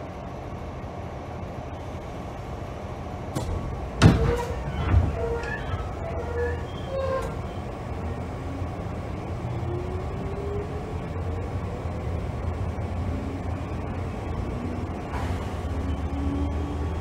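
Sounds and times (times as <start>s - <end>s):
electric train running hum: 0.0s - 17.0s.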